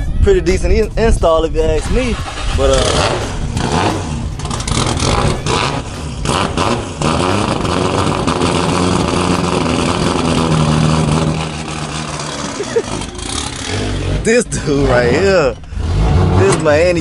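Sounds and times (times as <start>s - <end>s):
car engine idling: 1.8s - 17.0s.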